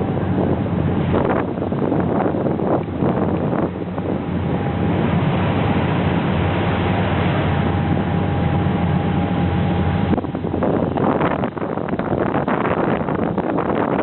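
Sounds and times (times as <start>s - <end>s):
boat engine droning: 0.0s - 14.0s
wind on microphone: 0.0s - 14.0s.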